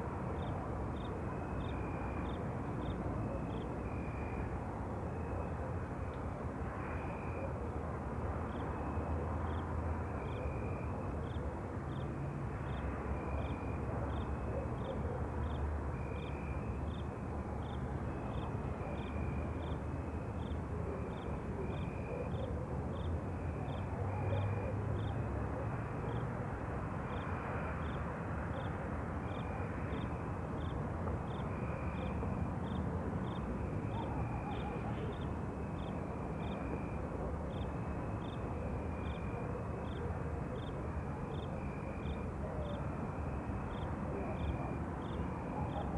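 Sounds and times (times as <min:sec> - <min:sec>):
longer low insect chirps: 0:00.4 - 0:05.5, 0:08.4 - 0:22.1, 0:27.0 - 0:45.9.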